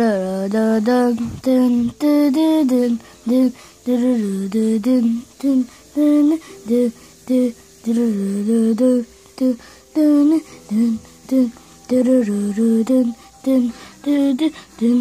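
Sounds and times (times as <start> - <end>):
person humming: 0.0 - 15.0.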